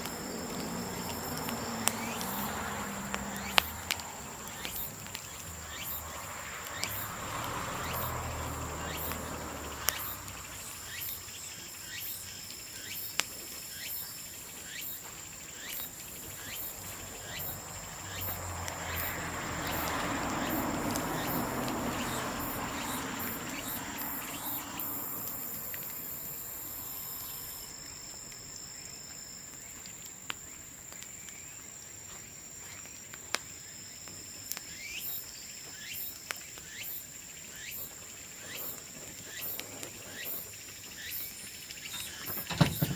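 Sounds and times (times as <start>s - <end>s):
bonfire crackling and popping: 0.0s - 13.7s, 14.4s - 26.4s, 29.4s - 34.9s, 35.6s - 42.6s
high insect trill: 0.0s - 42.9s.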